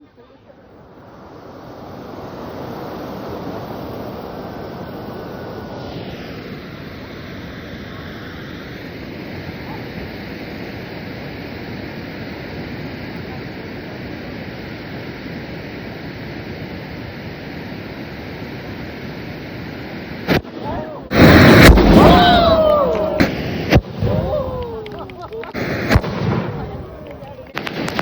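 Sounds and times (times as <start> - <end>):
firework fountain hissing: 0.0 - 28.0.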